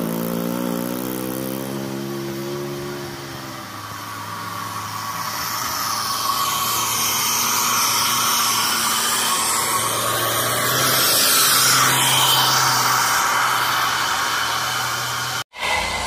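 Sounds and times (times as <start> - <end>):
truck engine straining uphill: 0.0 - 16.0.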